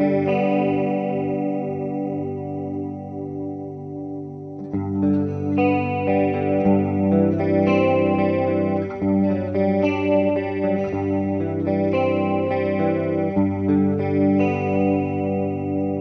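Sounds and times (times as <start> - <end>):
electric guitar chords with chorus: 0.0 - 16.0.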